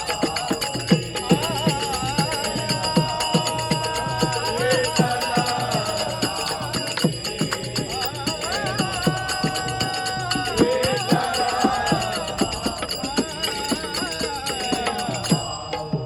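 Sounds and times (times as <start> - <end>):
small hand cymbals jingling: 0.0 - 16.0.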